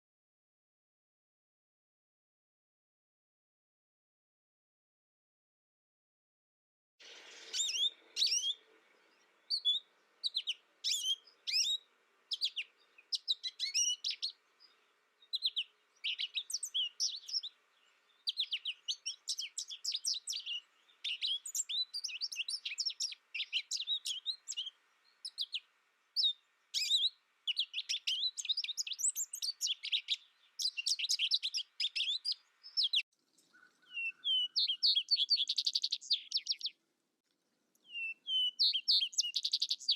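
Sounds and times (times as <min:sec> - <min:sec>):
songbirds chirping: 0:07.0 - 0:39.9.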